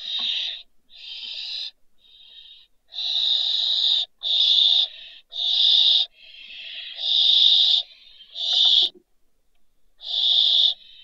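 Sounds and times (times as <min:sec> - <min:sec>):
owl hissing screeches: 0:00.0 - 0:08.9, 0:10.0 - 0:11.0.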